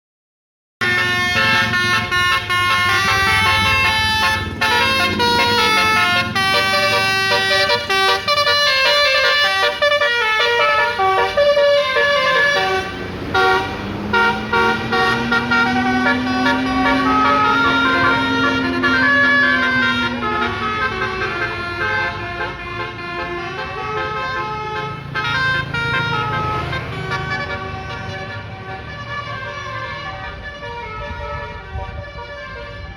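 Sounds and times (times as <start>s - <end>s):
multi-tone bus horn tune: 0.8s - 32.9s.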